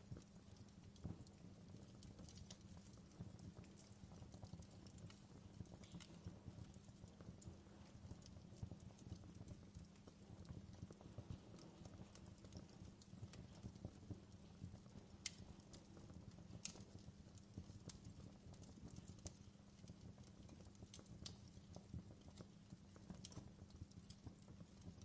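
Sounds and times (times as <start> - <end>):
low fire rumble: 0.0 - 25.0
wood fire crackling: 0.0 - 25.0
sharp pops and snaps: 0.9 - 25.0.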